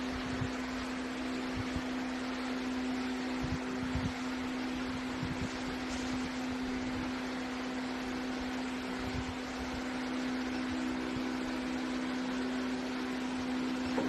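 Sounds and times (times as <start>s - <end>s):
machine hum with low tone: 0.0s - 14.0s.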